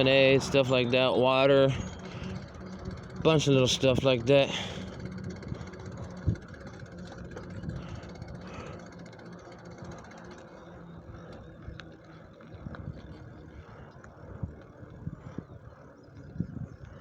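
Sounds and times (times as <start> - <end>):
wind rumble: 0.0 - 10.1, 10.8 - 17.0
engine hum: 0.0 - 17.0.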